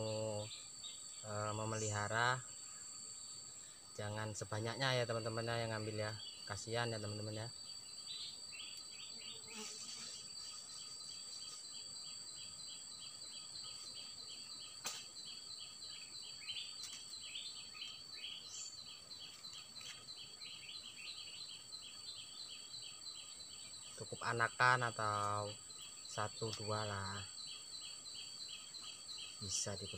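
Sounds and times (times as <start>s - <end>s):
high-pitched insect drone: 0.0s - 29.9s
insect chirping: 0.0s - 29.9s.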